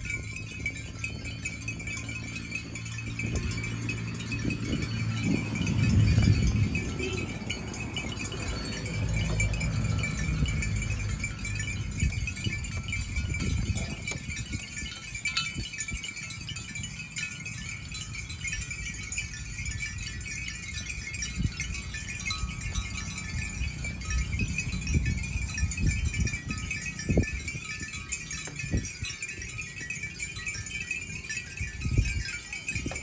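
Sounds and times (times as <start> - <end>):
animal bells jingling and clanking: 0.0 - 33.0.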